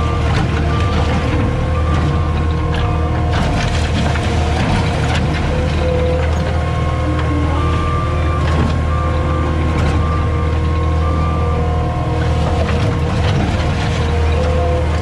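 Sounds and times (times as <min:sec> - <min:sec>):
diesel engine running under load: 0:00.0 - 0:15.0
hydraulic whine: 0:00.0 - 0:15.0.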